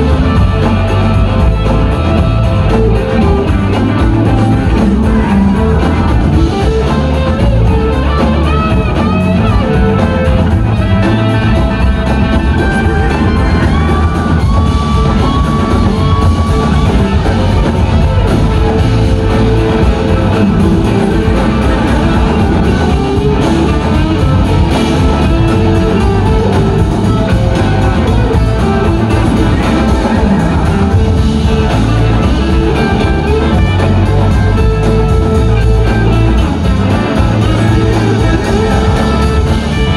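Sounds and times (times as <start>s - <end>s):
lead guitar bending notes: 0.0s - 39.9s
rock band playing: 0.0s - 39.9s.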